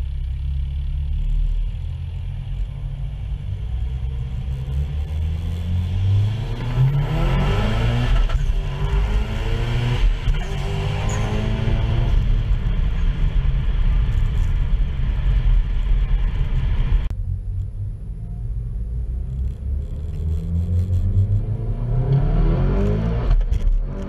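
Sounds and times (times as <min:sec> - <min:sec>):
car engine rumbling from inside: 0:00.0 - 0:24.0.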